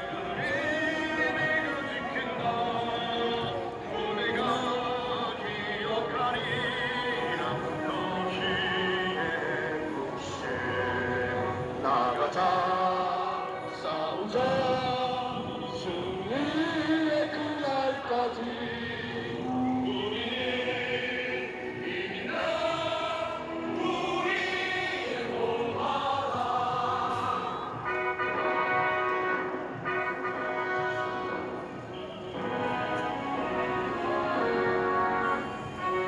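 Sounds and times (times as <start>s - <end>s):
choir singing held notes: 0.0s - 36.0s.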